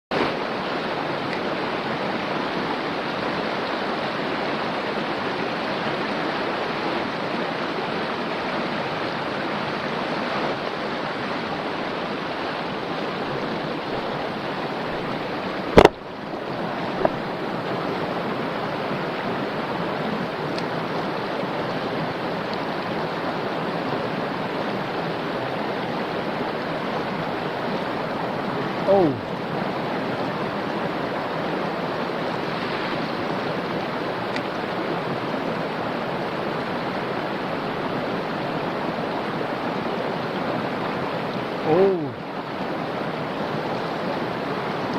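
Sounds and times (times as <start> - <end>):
stream rushing over rocks: 0.1 - 44.9.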